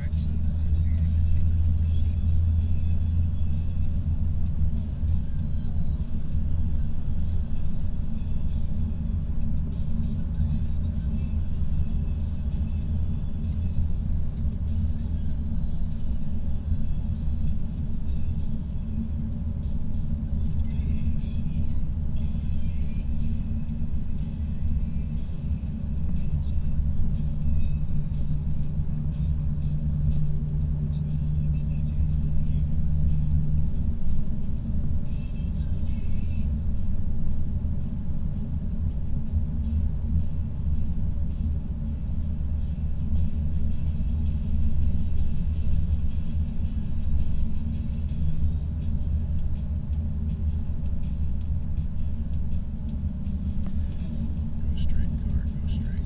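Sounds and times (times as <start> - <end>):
road and engine rumble in car: 0.0 - 56.0.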